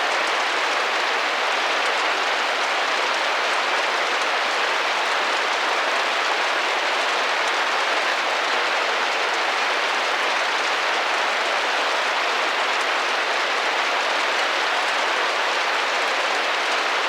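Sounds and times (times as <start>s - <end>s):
rain on a window pane: 0.0s - 17.0s.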